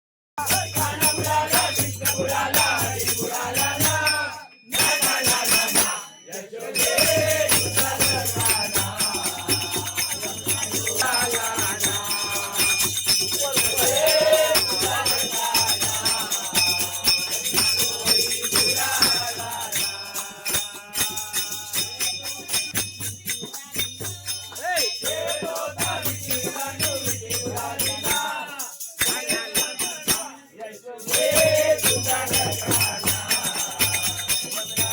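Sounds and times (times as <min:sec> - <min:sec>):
jingling bells: 0:00.4 - 0:34.9
rattling hand percussion: 0:00.4 - 0:34.9
women singing devotional song: 0:00.4 - 0:34.9.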